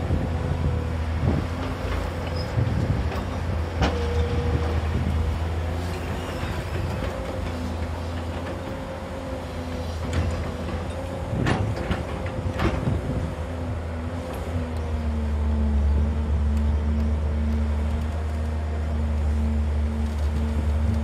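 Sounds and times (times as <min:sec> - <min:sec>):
excavator diesel engine droning: 0:00.0 - 0:21.0.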